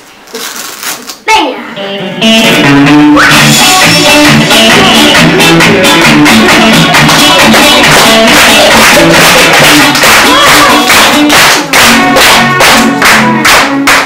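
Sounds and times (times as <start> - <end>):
upbeat music with bass: 1.8 - 14.0.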